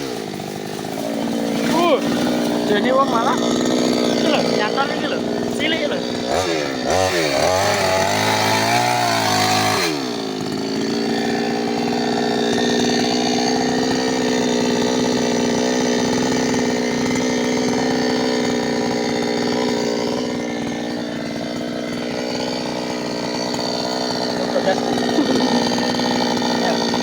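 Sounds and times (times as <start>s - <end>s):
chainsaw engine running: 0.0s - 27.0s.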